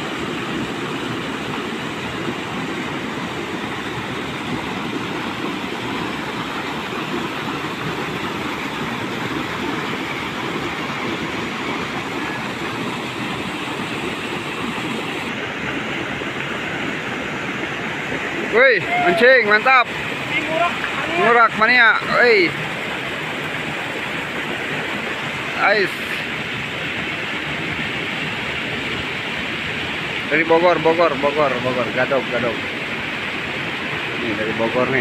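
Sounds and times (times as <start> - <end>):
water rushing over weir: 0.0 - 35.0.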